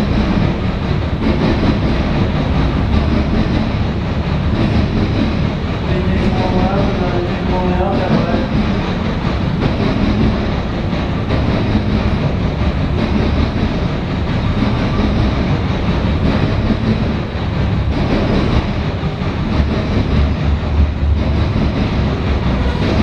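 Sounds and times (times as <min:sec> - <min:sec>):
clickety-clack over rail joints: 0:00.0 - 0:23.0
train wheels rumbling on rail: 0:00.0 - 0:23.0.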